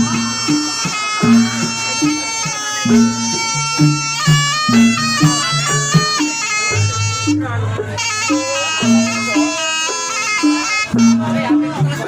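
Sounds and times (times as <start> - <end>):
shrill double-reed horn melody: 0.0 - 12.0.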